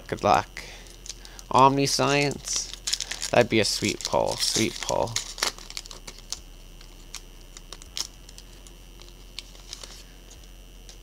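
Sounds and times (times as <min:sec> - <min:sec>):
faint high whine: 0:00.0 - 0:11.0
cards and foil wrapper handled: 0:00.1 - 0:11.0.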